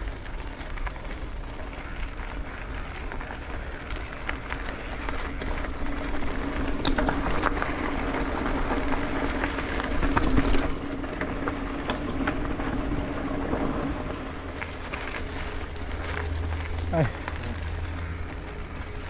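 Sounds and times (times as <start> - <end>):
bicycle road noise: 0.0 - 19.0
vehicle engine hum: 0.0 - 19.0.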